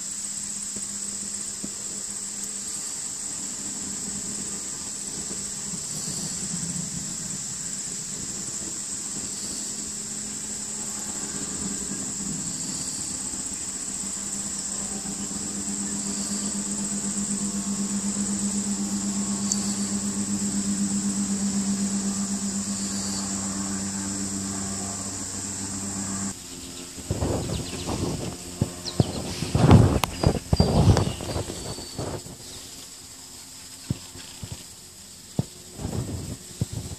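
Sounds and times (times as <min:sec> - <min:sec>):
insects droning: 0:00.0 - 0:36.9
low pulsing mechanical hum: 0:00.0 - 0:36.9.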